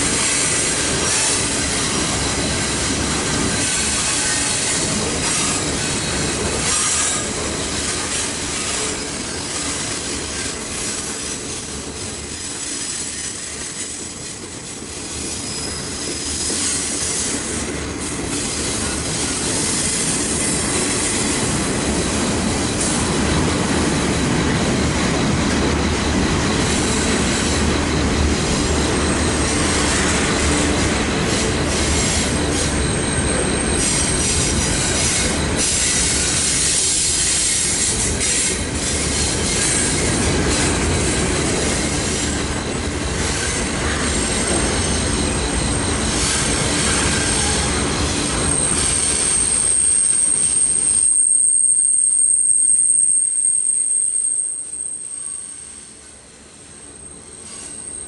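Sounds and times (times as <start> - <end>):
freight train wheels rumbling: 0.0 - 58.0
high wheel squeals: 0.0 - 58.0.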